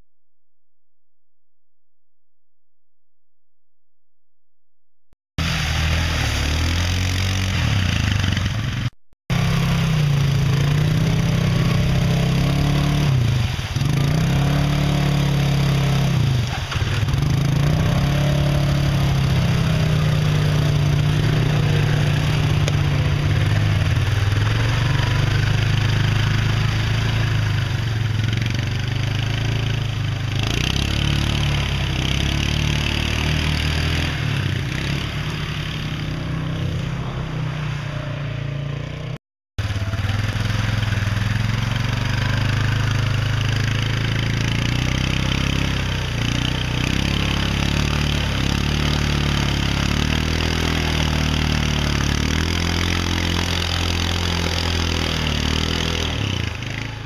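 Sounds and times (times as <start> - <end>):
atv engines revving: 5.4 - 57.0
mud and water spraying: 5.4 - 57.0.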